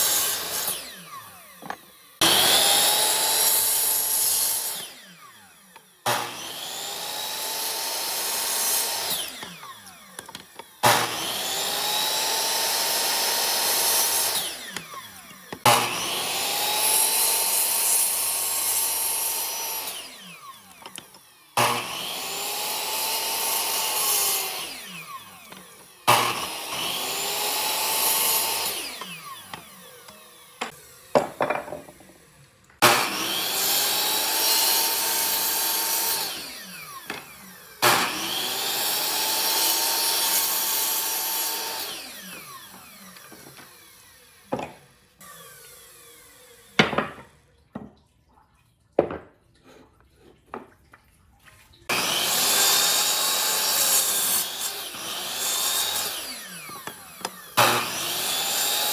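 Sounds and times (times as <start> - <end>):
power tool motor starting and winding down: 0.0 - 47.3, 51.9 - 58.9.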